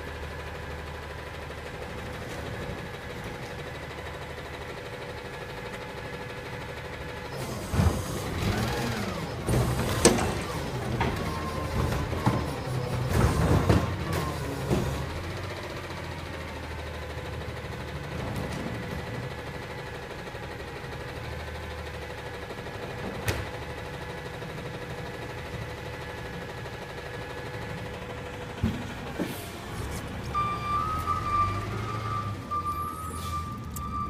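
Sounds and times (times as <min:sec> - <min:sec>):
garbage truck engine hum: 0:00.0 - 0:34.0.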